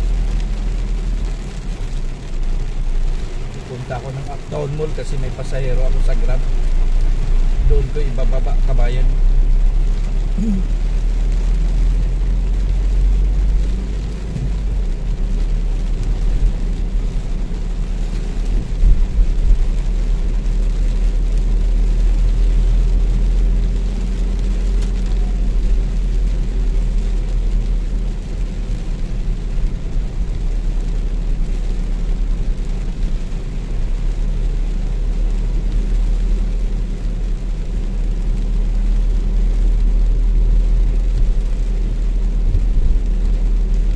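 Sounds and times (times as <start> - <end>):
car engine and tyres rumbling: 0.0 - 43.9
rain hissing on car roof: 0.0 - 43.9.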